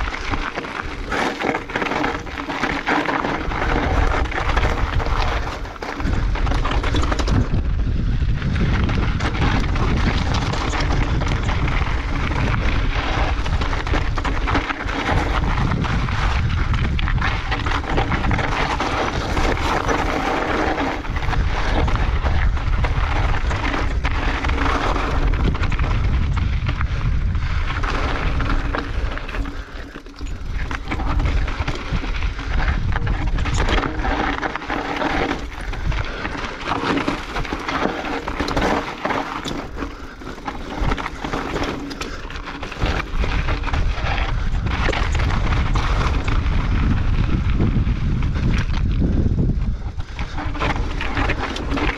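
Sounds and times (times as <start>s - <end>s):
bike knocks and rattles: 0.0s - 51.9s
bike tyres grinding over stones: 0.0s - 51.9s
wind rumbling on microphone: 0.0s - 51.9s.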